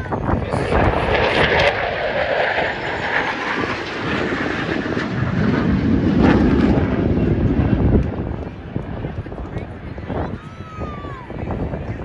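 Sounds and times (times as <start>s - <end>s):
fighter jets roaring past: 0.0s - 12.0s.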